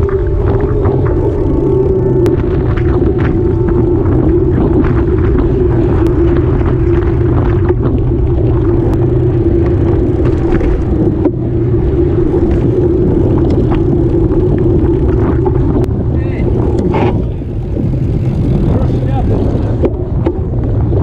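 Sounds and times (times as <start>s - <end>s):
bike tyre hum on asphalt: 0.0s - 21.0s
low constant rumble: 0.0s - 21.0s.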